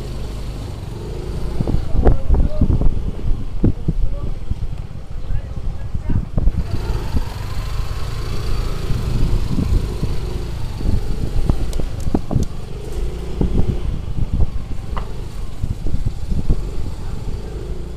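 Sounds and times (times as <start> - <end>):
motor scooter engine running: 0.0 - 3.6, 6.4 - 17.9
wind rumble on microphone: 0.0 - 17.9.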